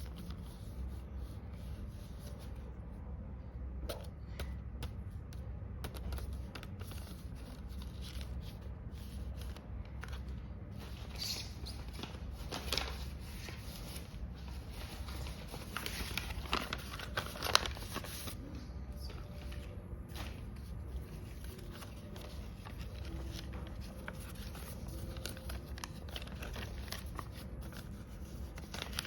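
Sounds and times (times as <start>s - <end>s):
paper crinkling and rustling: 0.0s - 2.7s, 5.8s - 29.0s.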